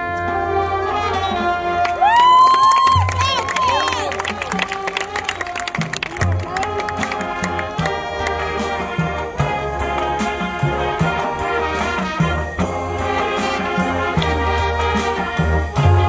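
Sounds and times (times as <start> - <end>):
marching band playing rock: 0.0 - 16.0.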